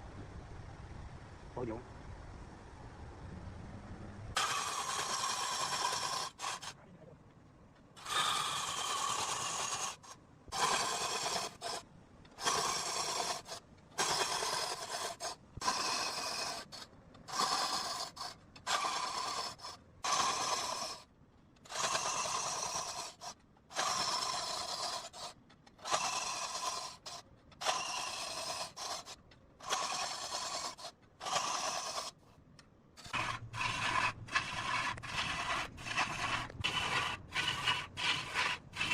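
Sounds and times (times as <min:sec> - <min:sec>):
tool scraping across wood: 0:04.4 - 0:06.8, 0:08.0 - 0:32.4, 0:33.0 - 0:38.9.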